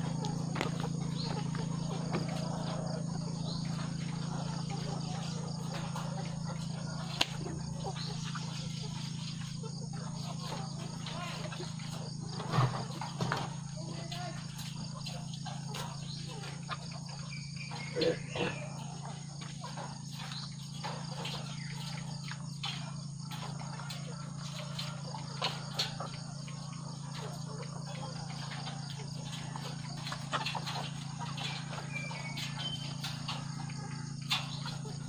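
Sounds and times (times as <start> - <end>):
clicks in wire cages: 0.0 - 35.0
hens clucking: 0.0 - 35.0
insects chirping: 0.0 - 35.0
loud hen calls: 0.0 - 35.0.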